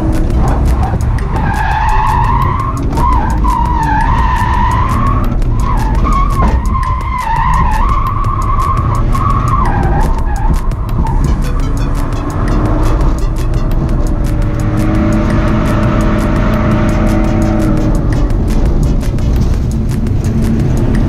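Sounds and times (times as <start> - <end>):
car engine at high revs: 0.0 - 21.0
tyres skidding on pavement: 0.0 - 21.0.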